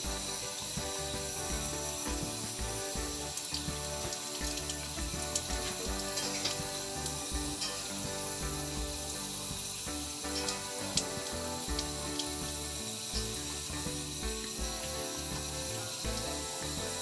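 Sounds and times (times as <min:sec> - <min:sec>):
background music with steady beat: 0:00.0 - 0:17.0
tap water running over hands: 0:00.0 - 0:17.0.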